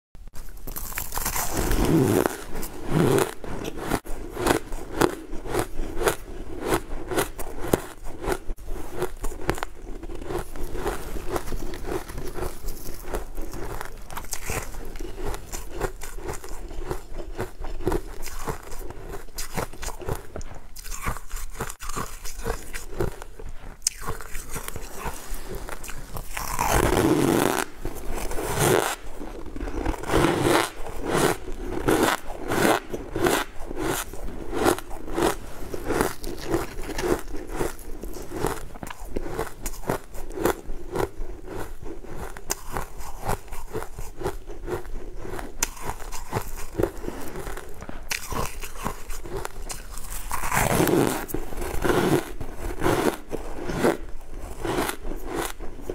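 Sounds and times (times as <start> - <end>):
wet chewing sounds: 0.4 - 55.9.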